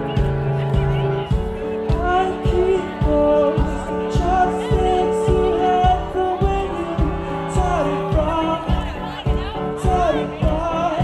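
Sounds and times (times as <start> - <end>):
kick drum beat: 0.0 - 11.0
rock band playing: 0.0 - 11.0
person singing: 1.3 - 11.0.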